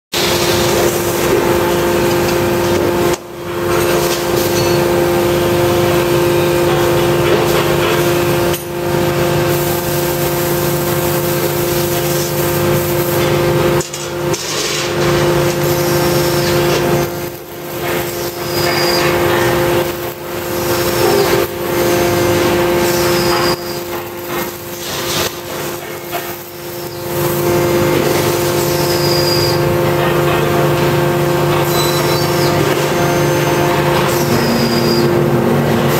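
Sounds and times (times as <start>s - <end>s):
hydraulic power unit humming: 0.2s - 35.9s.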